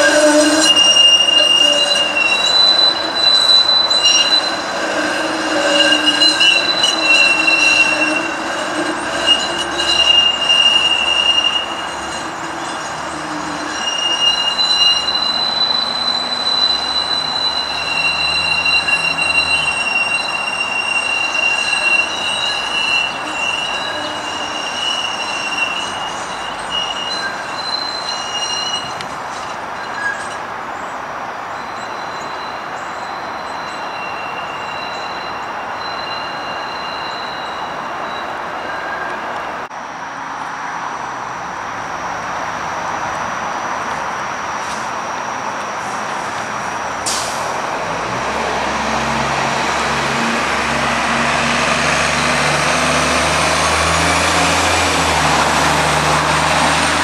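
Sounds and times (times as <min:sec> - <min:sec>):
streetcar wheels squealing: 0:00.0 - 0:39.7, 0:42.9 - 0:57.0
rumble of wheels on rails: 0:00.0 - 0:57.0.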